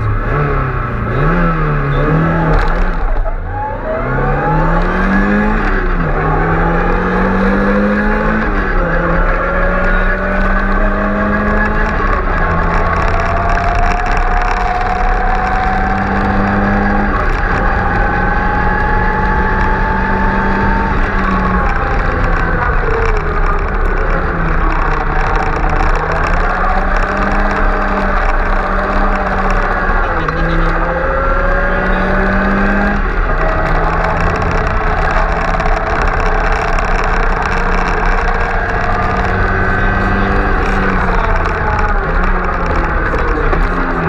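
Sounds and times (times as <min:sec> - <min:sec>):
rally car engine running hard: 0:00.0 - 0:44.0
road and wind rush: 0:00.0 - 0:44.0.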